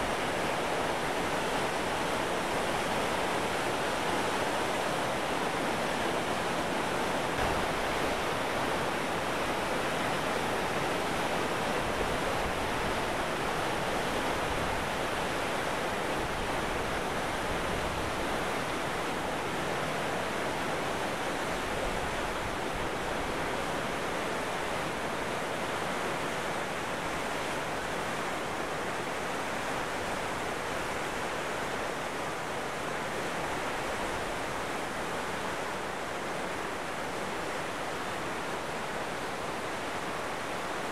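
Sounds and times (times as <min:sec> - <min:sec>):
whitewater rushing over rapids: 0:00.0 - 0:40.9.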